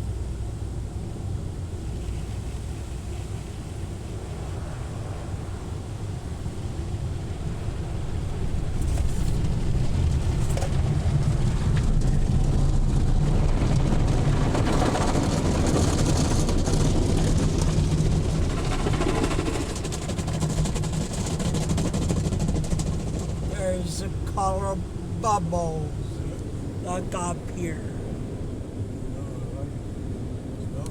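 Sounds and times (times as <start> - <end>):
low rumble against car body: 0.0 - 25.2.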